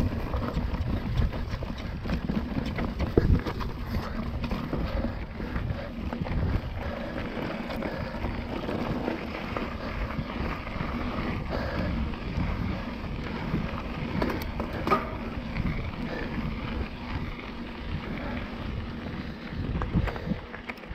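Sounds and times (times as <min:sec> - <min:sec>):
bike tyres crunching over gravel: 0:00.0 - 0:20.9
wind rumbling on microphone: 0:00.0 - 0:20.9.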